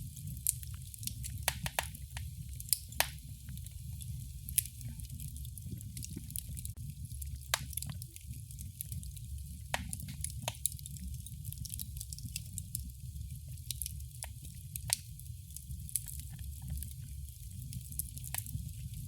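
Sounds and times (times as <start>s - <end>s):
fire crackling with pops: 0.0s - 19.0s.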